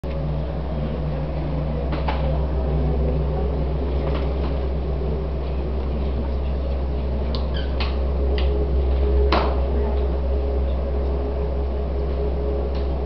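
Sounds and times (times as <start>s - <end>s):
deep low hum: 0.0s - 13.0s
faint higher hum: 0.0s - 13.0s.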